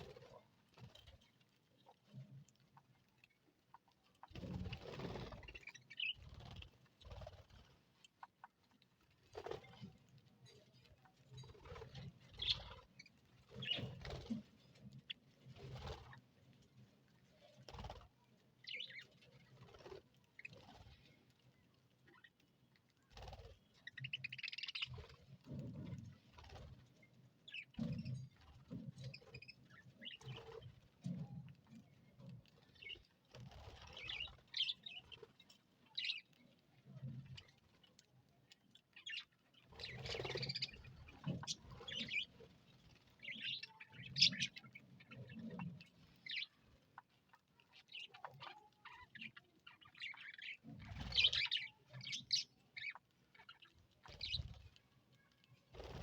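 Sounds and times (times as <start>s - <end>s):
budgerigars chirping and chattering: 0.0s - 1.2s, 1.8s - 21.3s, 22.0s - 38.1s, 38.7s - 54.7s.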